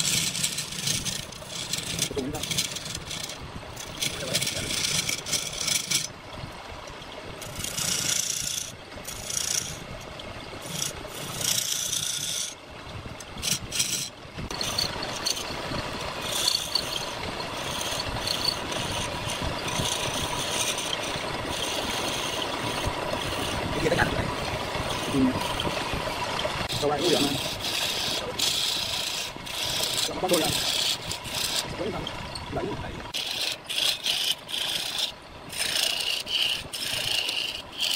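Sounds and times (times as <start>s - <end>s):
lathe running: 0.0s - 6.1s, 13.4s - 37.9s
chisel scraping spinning wood: 0.0s - 6.2s, 7.4s - 12.6s, 13.2s - 37.9s.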